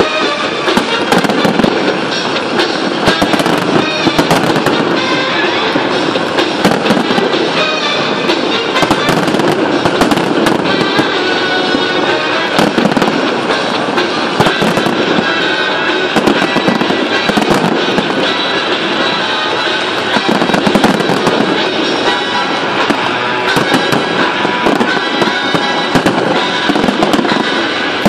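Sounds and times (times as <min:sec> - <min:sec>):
fireworks bangs and crackling: 0:00.0 - 0:28.0
music playing: 0:00.0 - 0:28.0.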